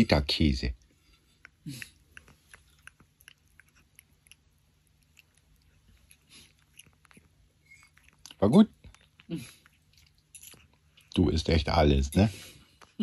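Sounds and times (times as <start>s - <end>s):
cat chewing and licking: 0.8s - 13.0s.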